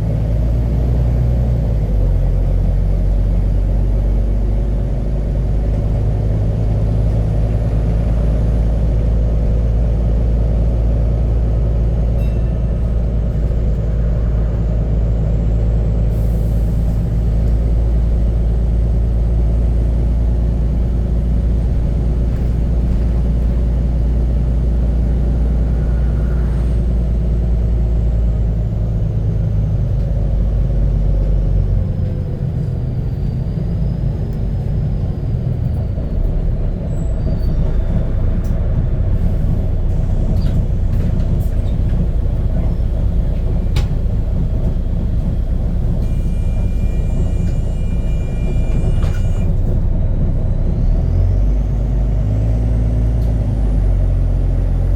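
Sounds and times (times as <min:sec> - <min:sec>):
bus diesel engine rumbling: 0:00.0 - 0:54.9.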